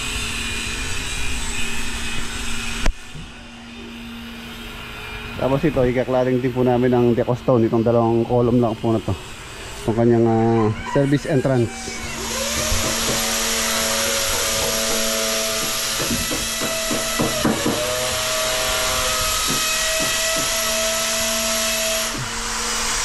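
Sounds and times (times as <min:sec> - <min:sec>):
power tool hissing: 0:00.0 - 0:23.0.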